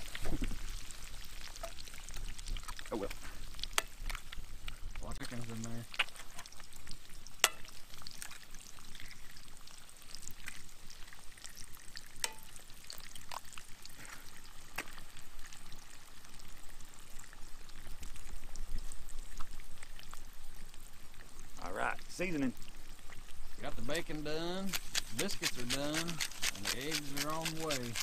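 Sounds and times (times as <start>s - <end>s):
eggs sizzling in skillet: 0.0s - 28.0s.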